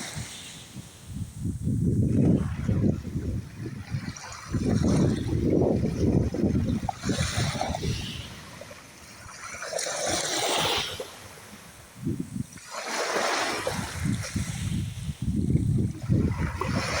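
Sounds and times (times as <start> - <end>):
wind buffeting microphone: 0.0 - 9.5, 11.8 - 17.0
sea waves washing on shore: 0.0 - 17.0.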